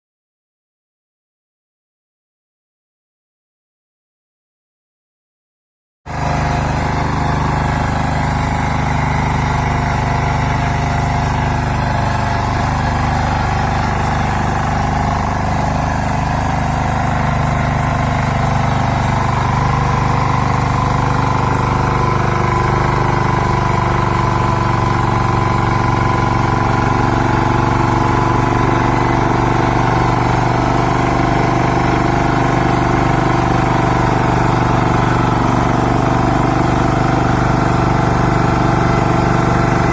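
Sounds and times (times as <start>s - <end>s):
small petrol engine running: 6.1s - 39.9s.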